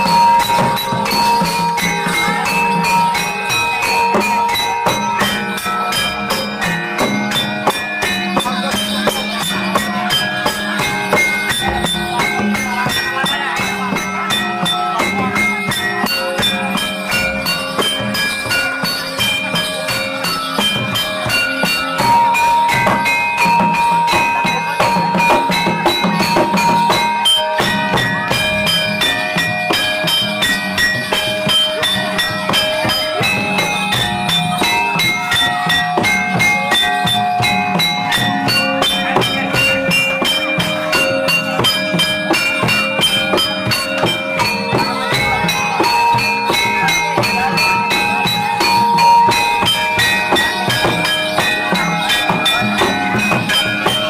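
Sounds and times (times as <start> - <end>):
bell-like jingling: 0.0 - 54.0
drums: 0.0 - 54.0
struck metal percussion: 0.0 - 54.0.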